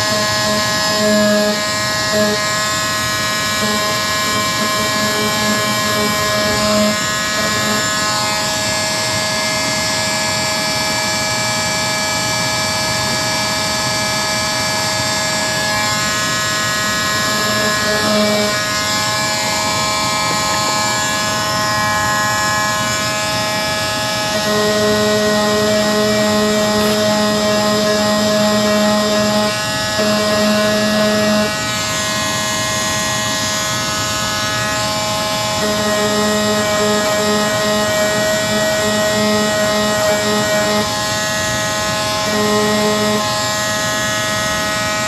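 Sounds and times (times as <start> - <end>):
electric power sander running: 0.0 - 45.0.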